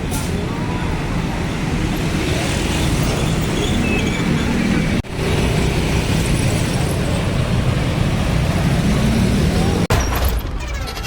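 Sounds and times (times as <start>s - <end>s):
roadside traffic noise: 0.0s - 11.0s.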